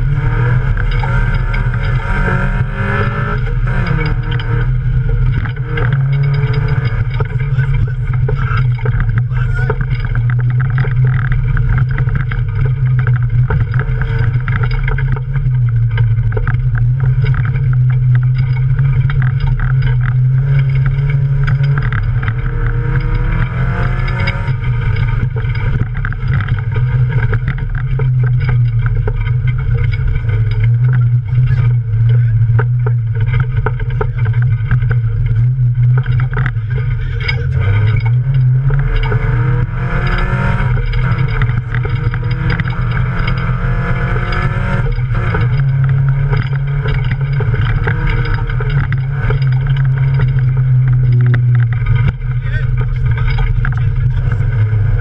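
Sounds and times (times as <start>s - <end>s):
car knocks and rattles: 0.0s - 55.0s
race car engine droning: 0.0s - 55.0s.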